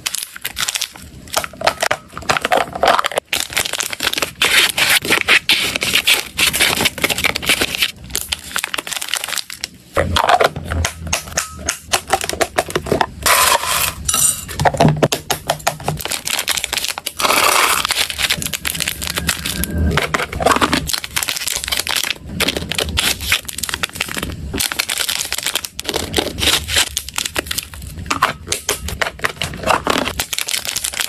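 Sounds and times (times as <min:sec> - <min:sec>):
dry snacks clicking and tapping: 0:00.0 - 0:13.2, 0:14.6 - 0:19.3, 0:20.0 - 0:31.0.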